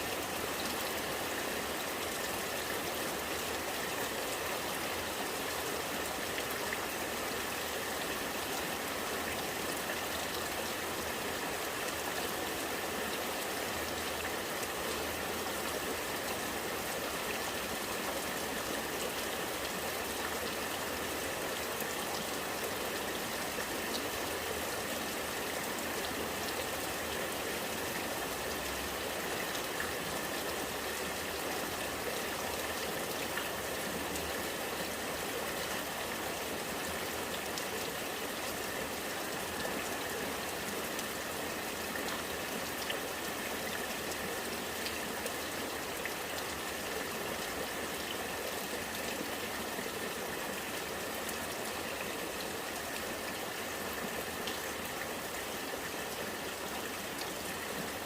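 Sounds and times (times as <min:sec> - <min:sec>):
rainwater running and gurgling: 0:00.0 - 0:58.0.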